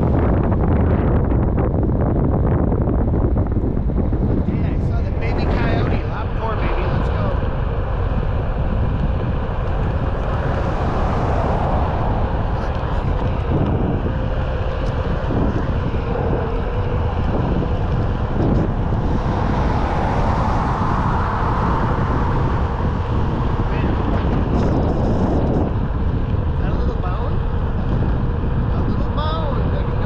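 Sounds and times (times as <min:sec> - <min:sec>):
longboard wheels rolling on asphalt: 0:00.0 - 0:30.0
wind on microphone: 0:00.0 - 0:30.0.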